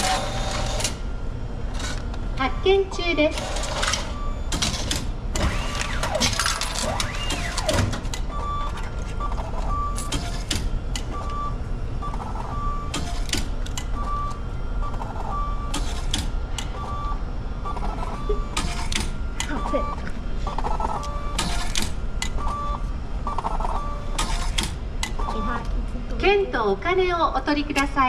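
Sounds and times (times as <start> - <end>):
steady low hum: 0.0 - 28.0
ticket machine beeping: 1.8 - 4.9, 5.6 - 25.7.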